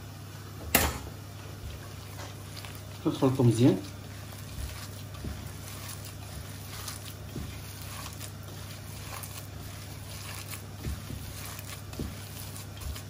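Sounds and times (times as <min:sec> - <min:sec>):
steady low hum: 0:00.0 - 0:13.0
wet squishing of meat mixture: 0:01.4 - 0:13.0.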